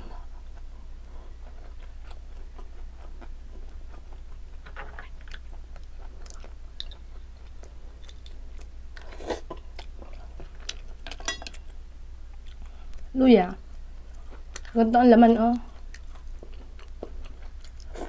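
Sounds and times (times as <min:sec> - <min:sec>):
chewing and wet mouth sounds: 0:00.4 - 0:13.1, 0:13.7 - 0:18.0.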